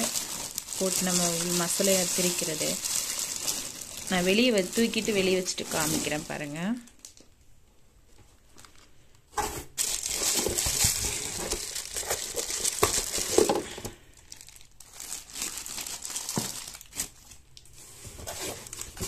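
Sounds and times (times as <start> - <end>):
plastic wrap crinkling: 0.0 - 7.5, 8.1 - 19.0.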